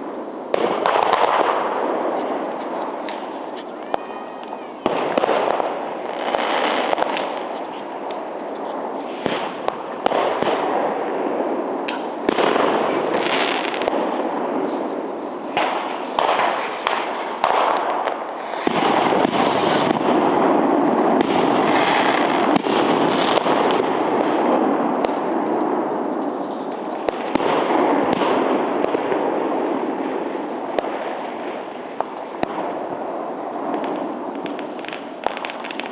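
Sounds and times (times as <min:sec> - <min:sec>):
firework bangs: 0:00.0 - 0:35.9
fireworks crackling: 0:00.0 - 0:35.9.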